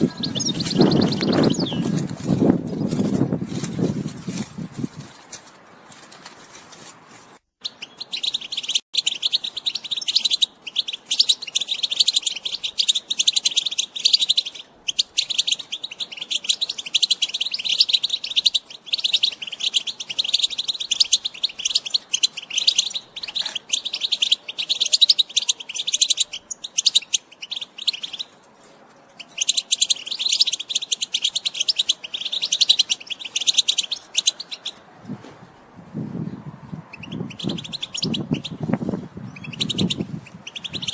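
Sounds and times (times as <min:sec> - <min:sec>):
finch twittering chatter: 0:00.0 - 0:03.2, 0:07.6 - 0:28.4, 0:29.2 - 0:34.8, 0:36.9 - 0:40.9.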